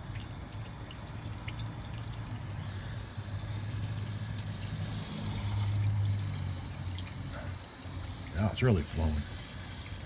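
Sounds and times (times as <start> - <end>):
water rushing through hoses: 0.0 - 10.0.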